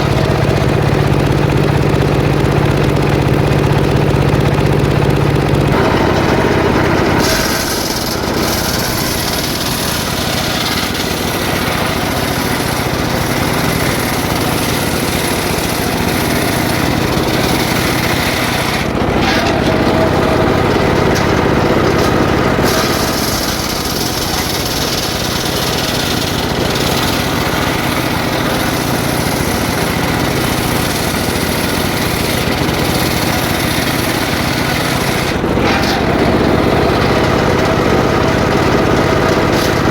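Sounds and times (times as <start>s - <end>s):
two-stroke saw cutting wood: 0.0s - 39.9s.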